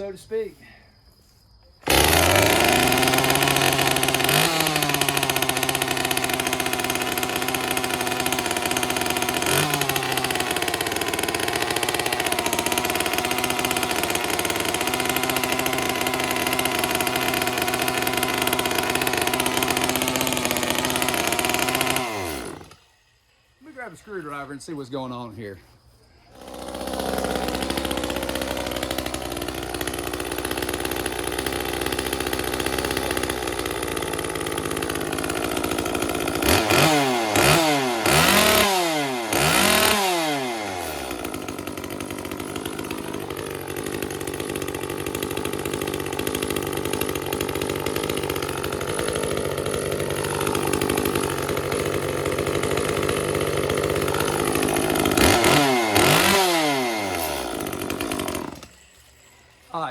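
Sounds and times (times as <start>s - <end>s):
chainsaw engine idling and revving: 1.8s - 22.9s, 26.3s - 59.9s.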